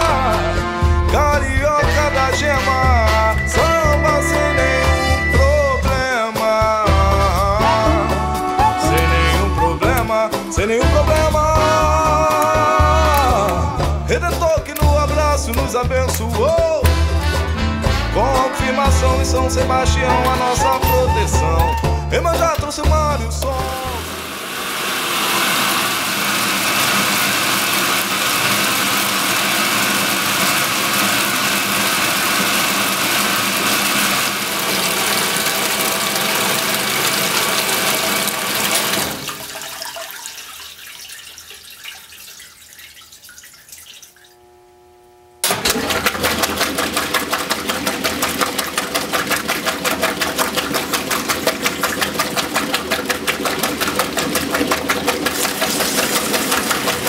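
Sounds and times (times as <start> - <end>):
washing machine agitating: 0.0 - 44.5, 45.4 - 57.0
water running into washer tub: 0.0 - 44.5, 45.4 - 57.0.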